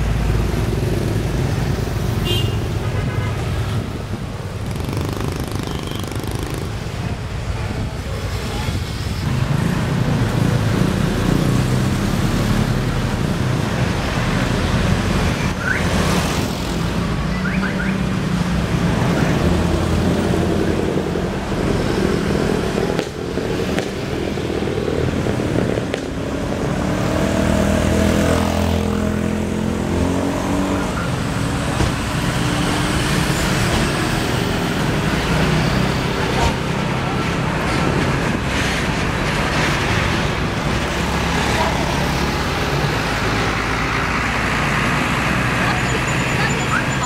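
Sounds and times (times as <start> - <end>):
cars passing: 0.0 - 47.0
motorcycles passing: 0.0 - 47.0.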